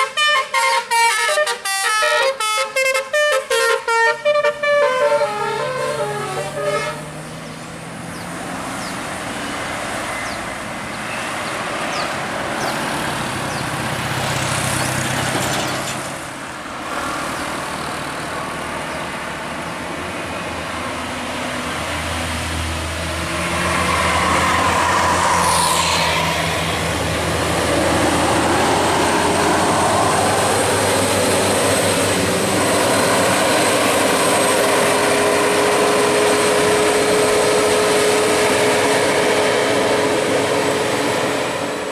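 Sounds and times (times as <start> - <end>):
diesel vehicles passing: 0.0 - 41.9.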